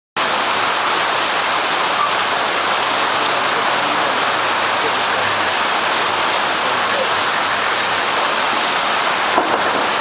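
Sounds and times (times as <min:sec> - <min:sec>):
river rushing: 0:00.2 - 0:10.0.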